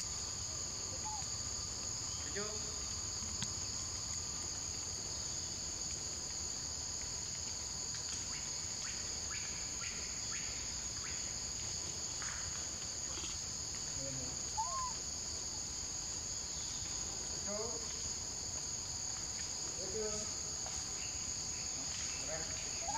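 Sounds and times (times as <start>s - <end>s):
forest insects buzzing: 0.0s - 22.9s.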